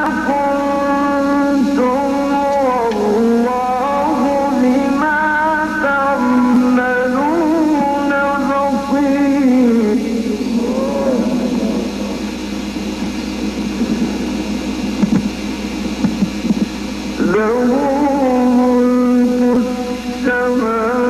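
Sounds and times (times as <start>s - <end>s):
man chanting melodically: 0.0s - 21.0s.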